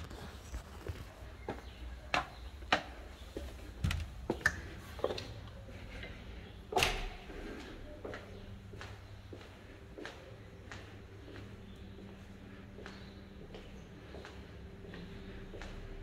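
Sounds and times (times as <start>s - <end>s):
footsteps on stone and tile: 0.0s - 16.0s.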